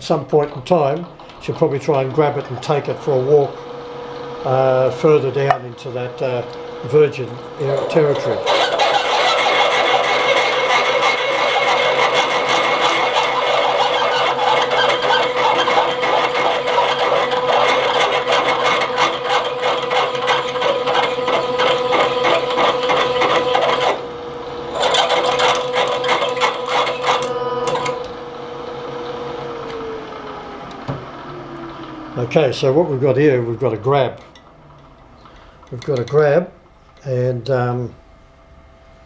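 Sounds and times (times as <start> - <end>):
drill grinding clatter: 0.0 - 37.2
milling machine spindle whine: 0.0 - 39.0.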